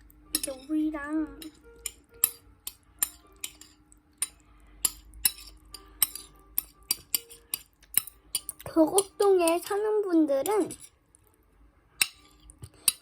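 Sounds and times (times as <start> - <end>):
utensils clinking against a bowl: 0.1 - 11.0, 12.0 - 13.0.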